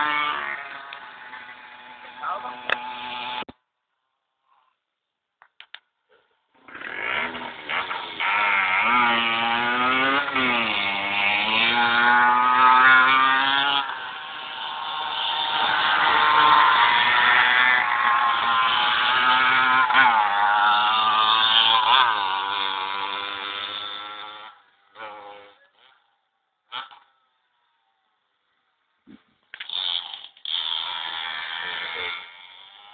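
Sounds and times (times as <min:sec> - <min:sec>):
small motorbike engine revving: 0:00.0 - 0:03.6, 0:06.1 - 0:27.9, 0:29.1 - 0:32.9.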